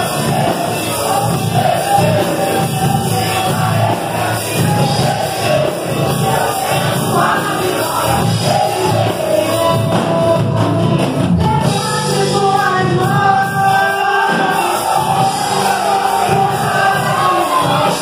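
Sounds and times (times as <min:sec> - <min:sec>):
choir singing gospel song: 0:00.0 - 0:18.0.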